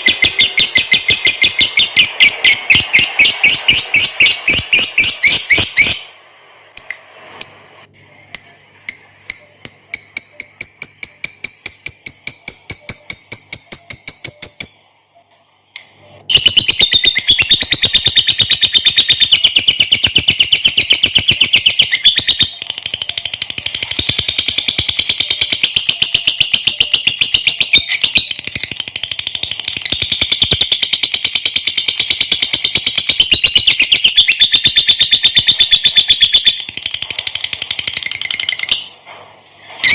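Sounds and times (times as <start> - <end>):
lovebird rapid chattering song: 0.0 - 6.0, 8.3 - 14.8, 16.3 - 38.9.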